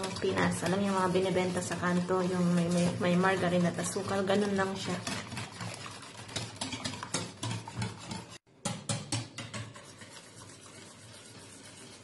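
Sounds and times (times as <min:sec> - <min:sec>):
wire whisk beating batter in bowl: 0:00.0 - 0:12.0.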